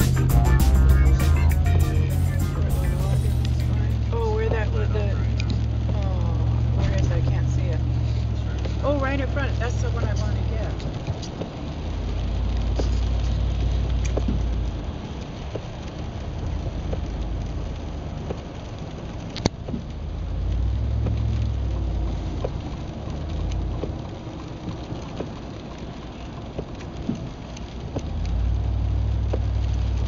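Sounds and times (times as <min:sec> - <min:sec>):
engine and tyres rumbling: 0:00.0 - 0:30.0
rain on car windshield and roof: 0:00.0 - 0:30.0.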